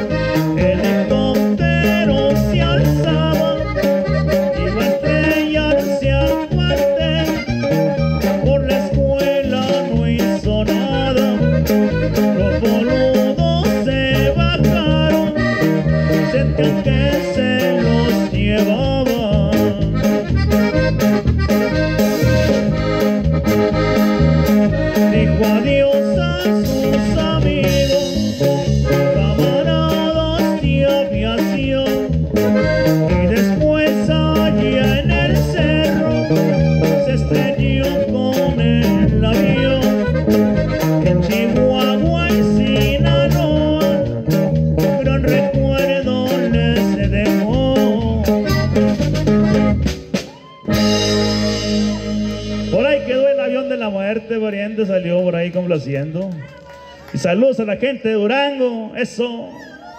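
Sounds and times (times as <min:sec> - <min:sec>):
button accordion melody: 0:00.0 - 0:54.9
drum kit beat: 0:00.0 - 0:56.1
guitars strumming: 0:00.0 - 0:56.2.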